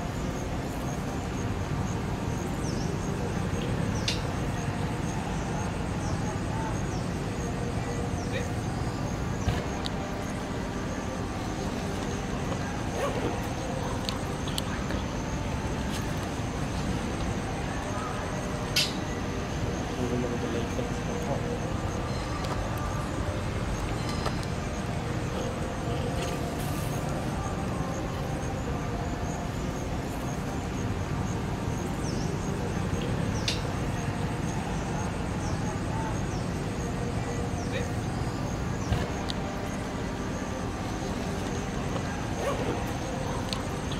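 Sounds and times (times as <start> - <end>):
outdoor background rumble: 0.0 - 43.9.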